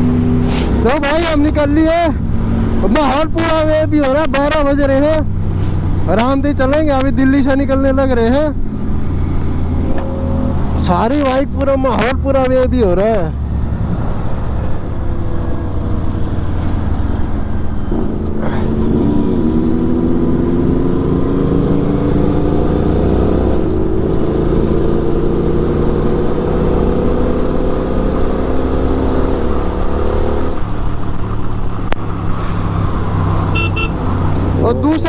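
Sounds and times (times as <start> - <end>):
motorcycle engines: 0.0 - 35.0.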